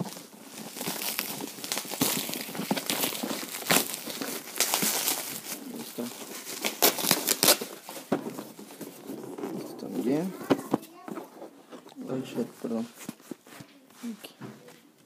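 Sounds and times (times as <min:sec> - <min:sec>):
packaging crinkling and crackling: 0:00.0 - 0:13.7.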